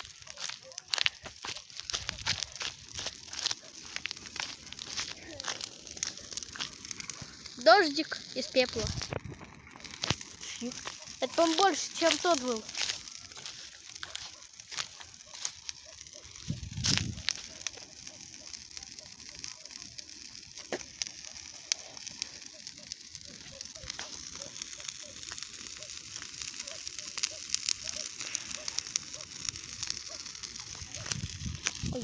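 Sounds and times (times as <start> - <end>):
bonfire hissing: 0.0 - 32.0
burning wood crackling and popping: 0.0 - 32.0.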